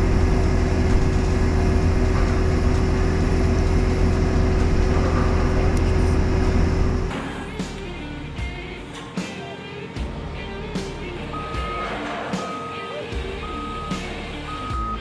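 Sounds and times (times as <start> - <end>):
constant hum: 0.0 - 15.0
heavy engine rumbling: 0.0 - 15.0.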